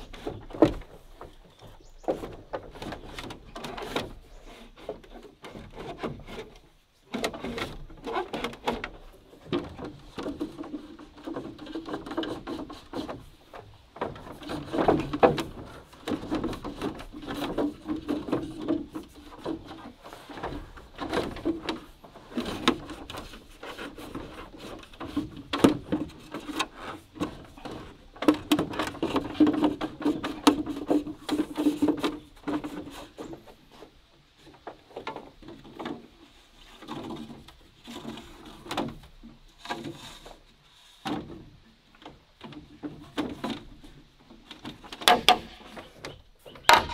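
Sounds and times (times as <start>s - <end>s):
bamboo poles knocking and scraping: 0.0s - 46.9s.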